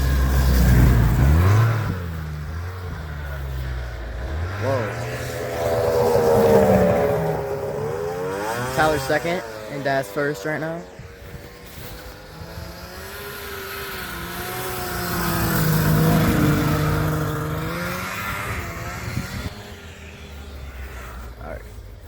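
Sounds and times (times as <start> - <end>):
snowmobile engine passing by: 0.0 - 22.0.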